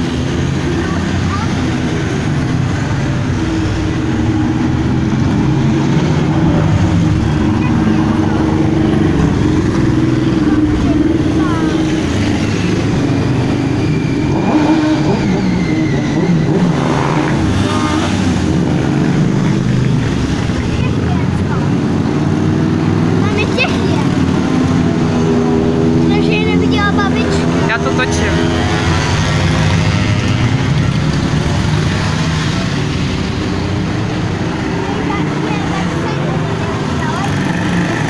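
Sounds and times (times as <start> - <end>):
motorcycles revving past: 0.0 - 38.0.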